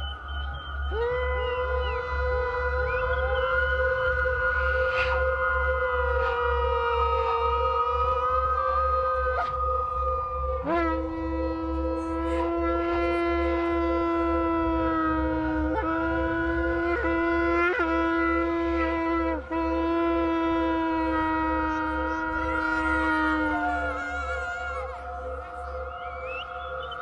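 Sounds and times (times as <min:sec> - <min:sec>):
horn-like wind instrument note: 0:00.0 - 0:27.0
low pulsing rumble: 0:00.0 - 0:27.0
steady drone tone: 0:00.0 - 0:27.0.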